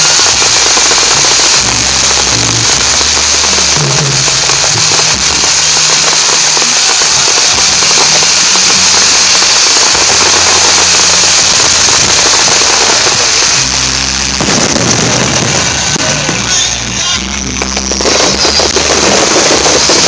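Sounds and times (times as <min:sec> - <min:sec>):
fireworks crackling: 0:00.0 - 0:20.0
music with low bass: 0:00.0 - 0:20.0.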